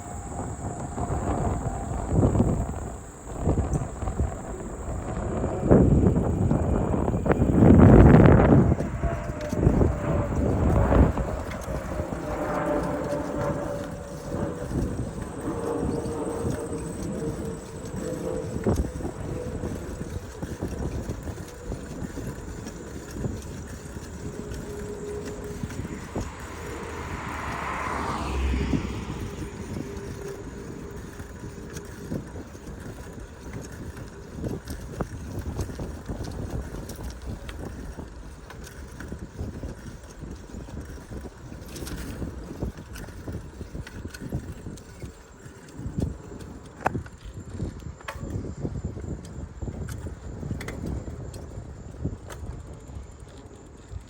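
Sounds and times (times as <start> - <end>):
bicycle rattles and clicks: 0.0 - 54.0
bicycle road rumble: 0.0 - 54.0
wind on microphone: 0.0 - 54.0.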